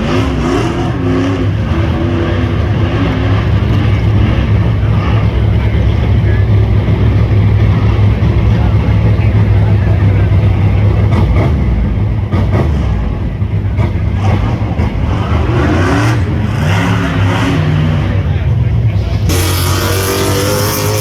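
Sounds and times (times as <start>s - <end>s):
loud engine running and revving: 0.0s - 21.0s.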